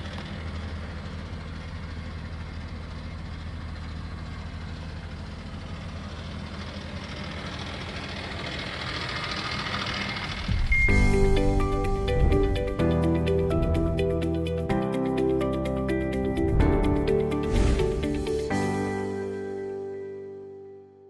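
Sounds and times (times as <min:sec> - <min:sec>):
truck engine idling: 0:00.0 - 0:19.8.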